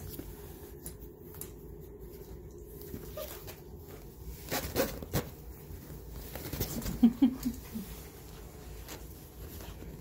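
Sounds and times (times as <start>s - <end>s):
soft rustling of handling: 0.0s - 10.0s.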